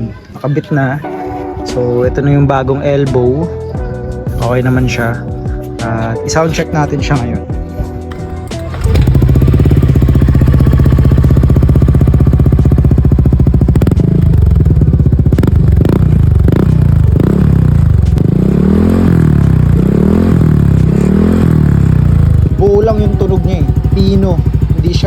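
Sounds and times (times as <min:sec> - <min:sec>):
scooter engine idling and revving: 0:03.5 - 0:25.0.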